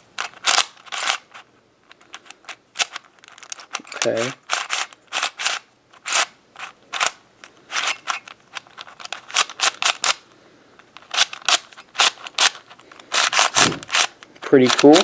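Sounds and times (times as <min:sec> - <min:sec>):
plastic puzzle clacks: 0:00.2 - 0:10.2, 0:10.8 - 0:15.0.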